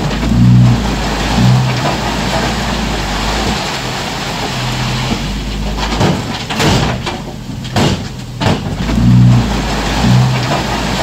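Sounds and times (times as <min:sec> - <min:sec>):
heavy machinery diesel engine: 0:00.0 - 0:11.0
sharp noisy crashes: 0:00.0 - 0:11.0.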